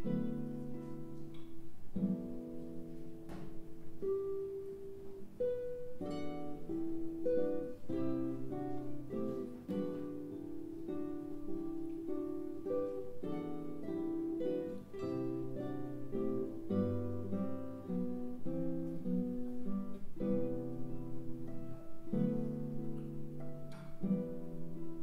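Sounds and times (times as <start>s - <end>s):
classical guitar duet: 0.0s - 25.0s.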